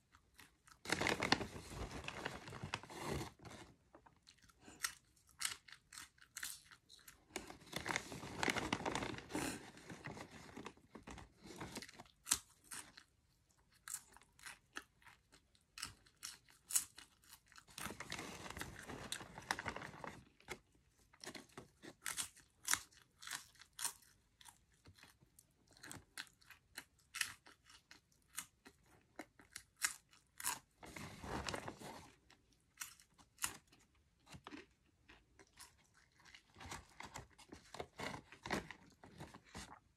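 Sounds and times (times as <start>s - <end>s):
person chewing crunchy popcorn: 0.0s - 39.9s.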